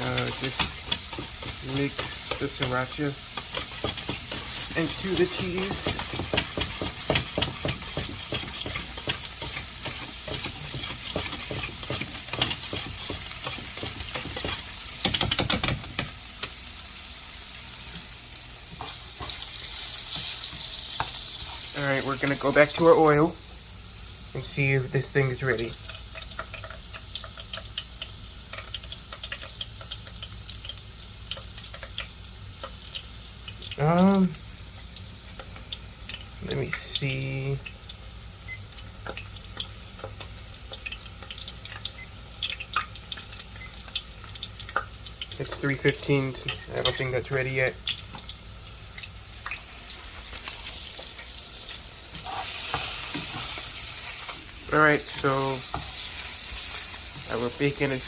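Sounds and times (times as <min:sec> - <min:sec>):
cooking fat sizzling: 0:00.0 - 0:58.0.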